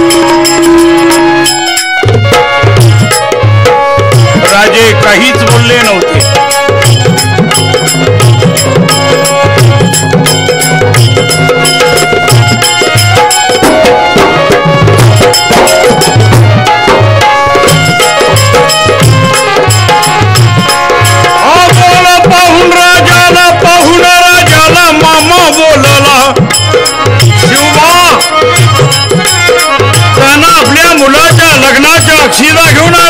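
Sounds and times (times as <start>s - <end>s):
hand drum beating: 0.0s - 33.0s
held melodic notes: 0.0s - 33.0s.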